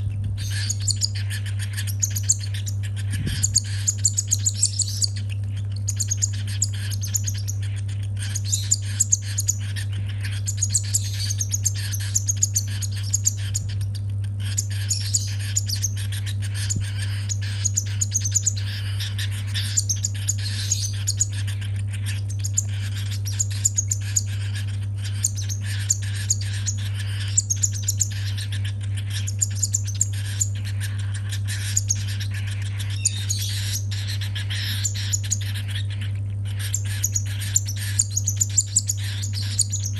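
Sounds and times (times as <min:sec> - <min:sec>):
baby bird chirping: 0:00.0 - 0:39.9
low hum: 0:00.0 - 0:39.9.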